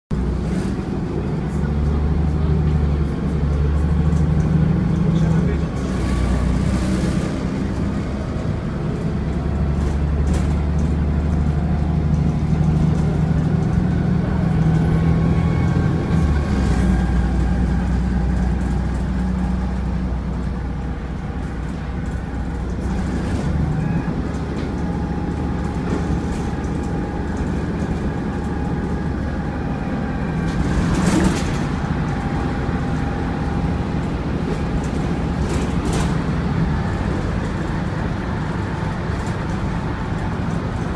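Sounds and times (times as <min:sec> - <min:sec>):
diesel bus engine drone: 0:00.1 - 0:40.9.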